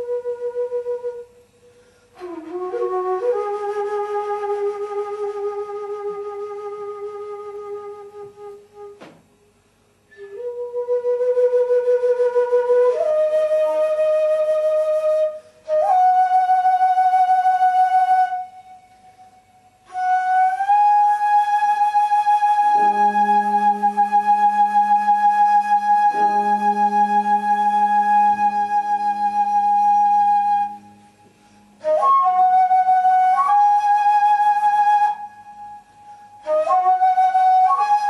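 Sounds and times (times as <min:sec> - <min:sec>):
flute slow melody: 0:00.0 - 0:09.2, 0:10.0 - 0:38.0.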